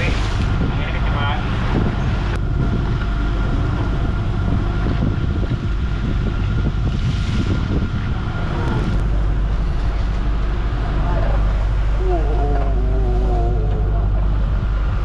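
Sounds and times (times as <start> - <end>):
wind on microphone: 0.0 - 10.6, 11.7 - 15.0
boat machinery droning: 0.0 - 15.0.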